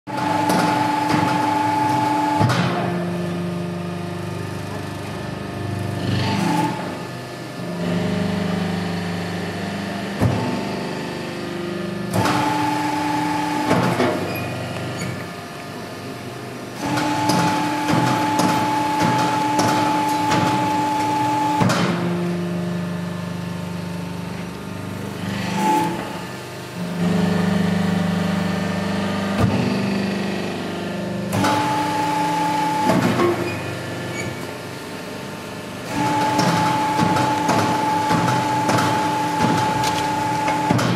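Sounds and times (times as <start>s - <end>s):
hydraulic power unit hum: 0.1s - 40.9s.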